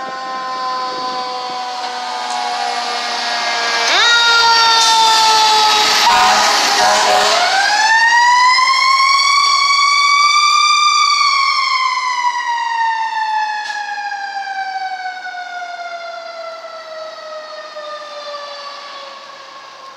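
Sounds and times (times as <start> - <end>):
mechanical siren wailing: 0.0 - 19.9.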